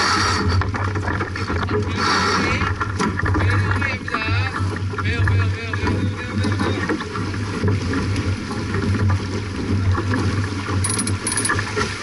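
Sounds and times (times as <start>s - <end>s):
water along hull: 0.0s - 12.0s.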